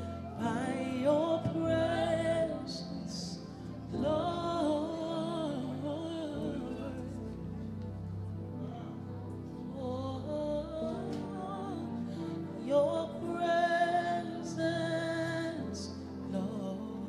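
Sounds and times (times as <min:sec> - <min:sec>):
person singing: 0:00.0 - 0:17.0.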